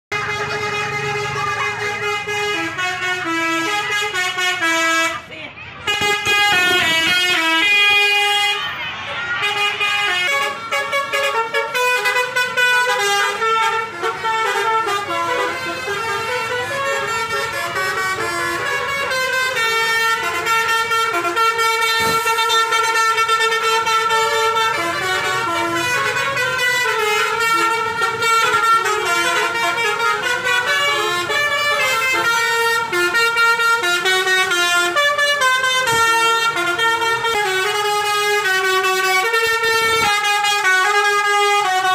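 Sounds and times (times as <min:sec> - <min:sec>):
musical air horns playing tune: 0:00.1 - 0:41.9.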